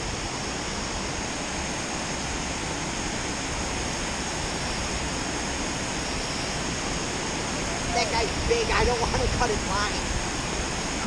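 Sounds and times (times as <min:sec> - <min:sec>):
water rushing down spillway: 0:00.0 - 0:11.0.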